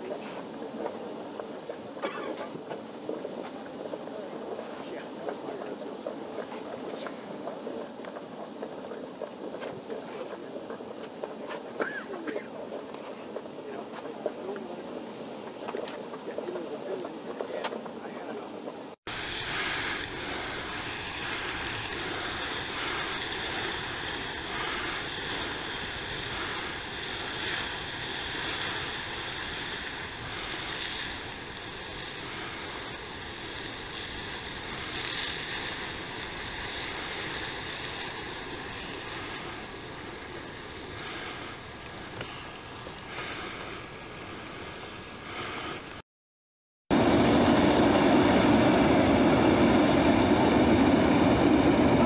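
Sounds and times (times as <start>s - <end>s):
geyser steam hissing: 0.0s - 46.0s, 46.9s - 52.0s.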